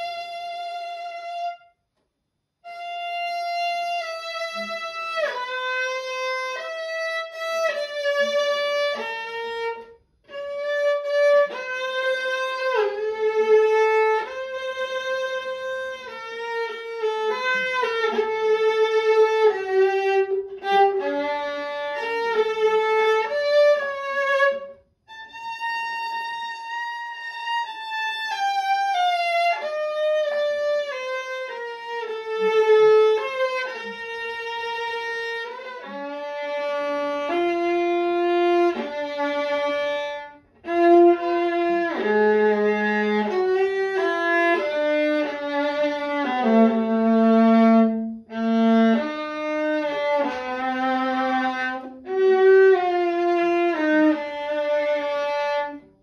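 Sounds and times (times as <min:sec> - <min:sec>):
bowed violin: 0:00.0 - 0:56.0.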